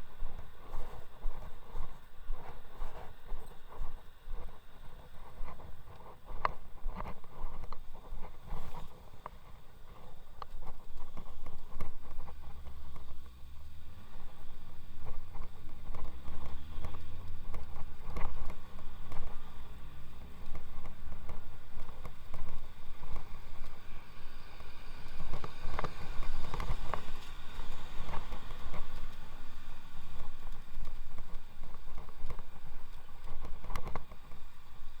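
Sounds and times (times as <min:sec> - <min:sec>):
road and wind rumble: 0:00.0 - 0:35.0.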